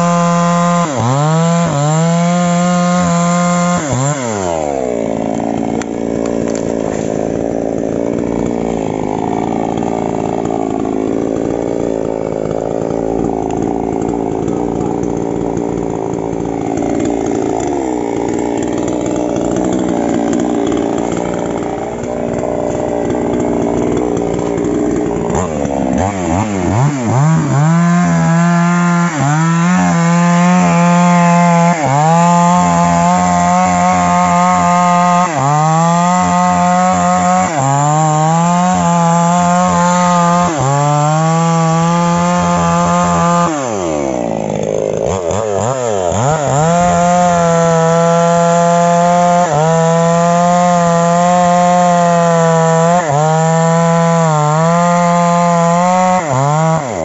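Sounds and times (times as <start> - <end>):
chainsaw cutting into tree trunk: 0.0 - 57.0.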